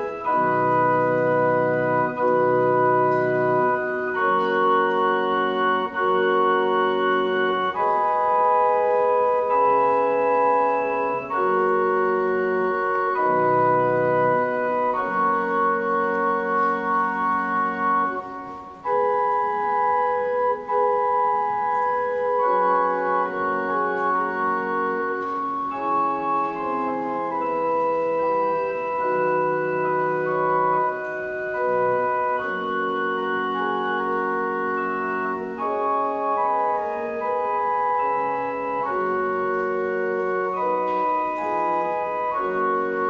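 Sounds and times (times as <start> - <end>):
organ playing held chords: 0.0 - 43.0.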